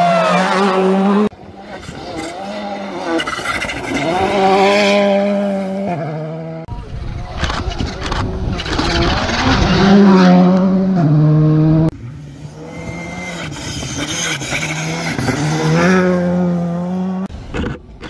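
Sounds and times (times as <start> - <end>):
rally car engine revving: 0.0 - 6.7, 7.4 - 17.8.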